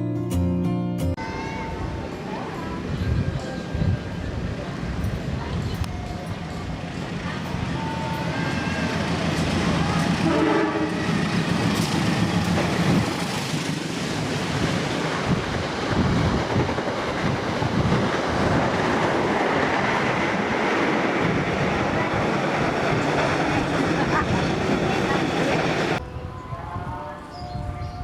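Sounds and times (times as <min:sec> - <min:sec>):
freight train wheels rumbling: 0:01.2 - 0:28.0.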